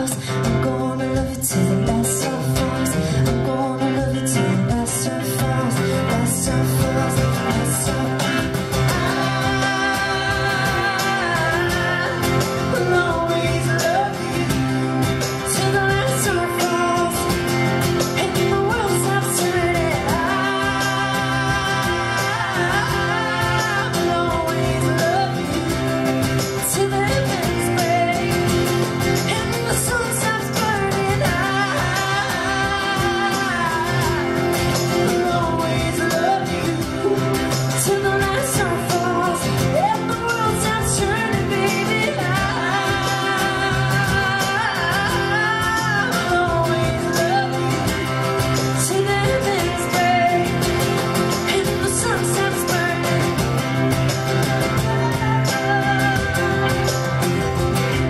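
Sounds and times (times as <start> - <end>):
electric guitar: 0.0 - 58.0
lead and harmony vocals: 0.0 - 58.0
strummed acoustic guitars: 0.0 - 58.0.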